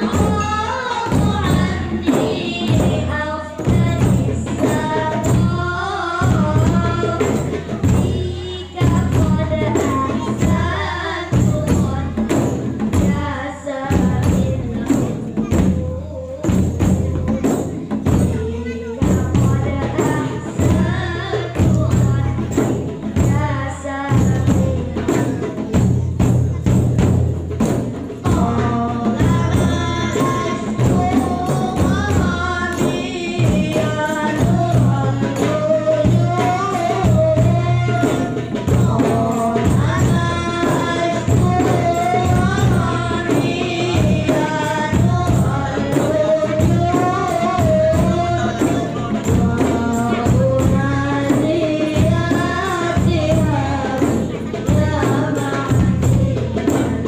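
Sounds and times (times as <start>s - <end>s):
hand drums beating: 0.0s - 57.0s
voices singing in unison: 0.0s - 57.0s.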